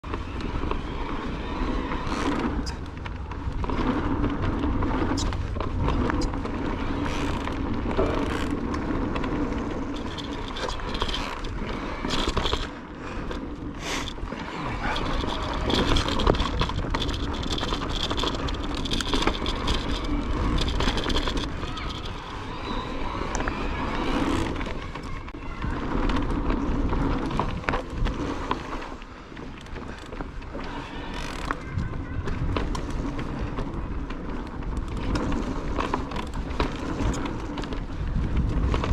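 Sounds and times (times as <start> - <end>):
bike clicking and knocking on bumps: 0.0 - 38.9
tyres rolling on dirt: 0.0 - 38.9
wind rumbling on microphone: 0.0 - 38.9.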